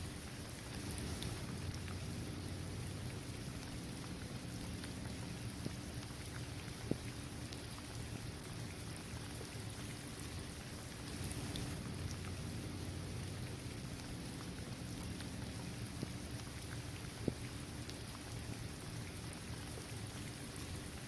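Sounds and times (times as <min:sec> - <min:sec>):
rain falling on pavement: 0:00.0 - 0:21.0.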